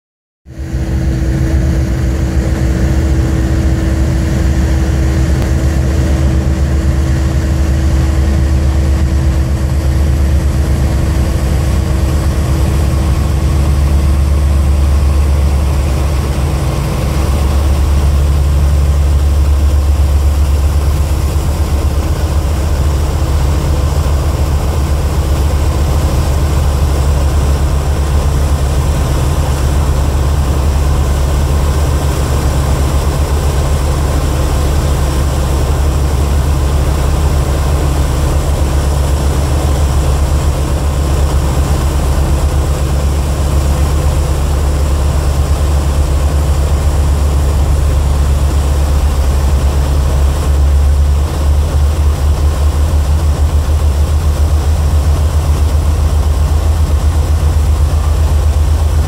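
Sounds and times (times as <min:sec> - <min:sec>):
aircraft piston engines droning: 0:00.6 - 0:59.0.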